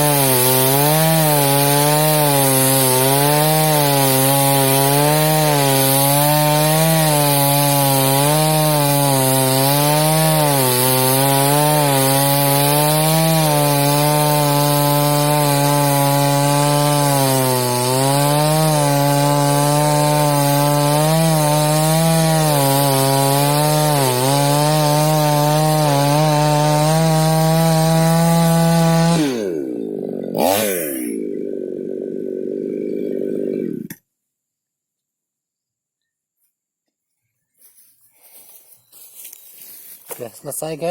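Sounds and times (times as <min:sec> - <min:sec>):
chainsaw cutting wood: 0:00.0 - 0:34.1.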